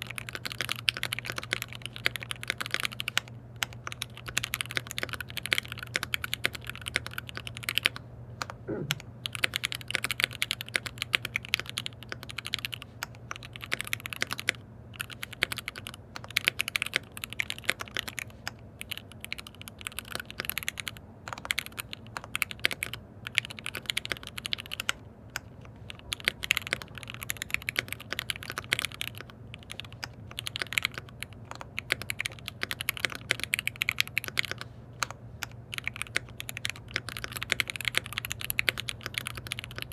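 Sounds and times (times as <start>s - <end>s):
mechanical keyboard typing: 0.0s - 39.9s
steady low hum: 0.0s - 39.9s.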